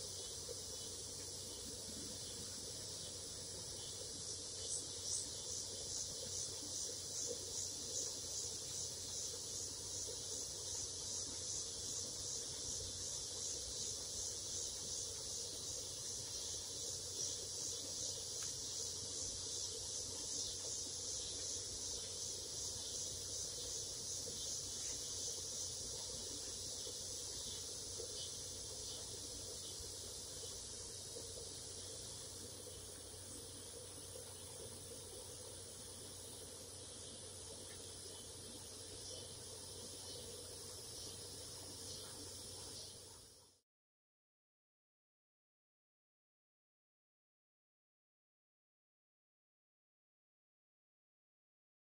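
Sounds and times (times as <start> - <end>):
high insect trill: 0.0 - 43.6
insects chirping: 0.0 - 43.6.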